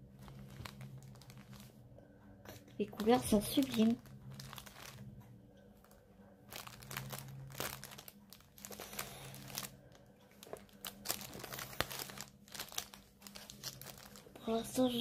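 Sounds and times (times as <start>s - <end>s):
packaging crinkling and rustling: 0.0s - 1.8s, 2.8s - 5.2s, 5.8s - 15.0s.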